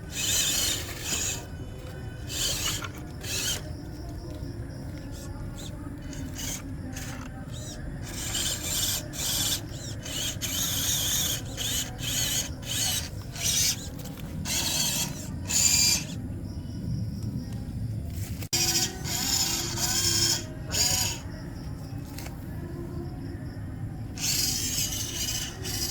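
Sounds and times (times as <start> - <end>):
toy car electric motor whining: 0.0 - 16.2, 18.5 - 22.4, 24.0 - 25.9.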